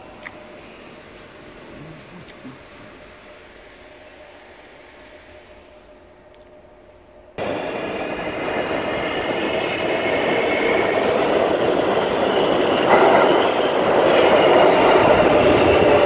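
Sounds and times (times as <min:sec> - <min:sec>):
subway wheels rumbling and squealing: 0:00.0 - 0:16.0.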